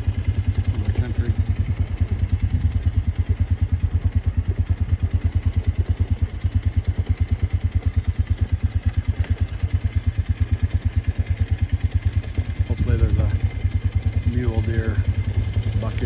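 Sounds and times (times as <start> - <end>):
atv engine chugging: 0.0 - 16.0.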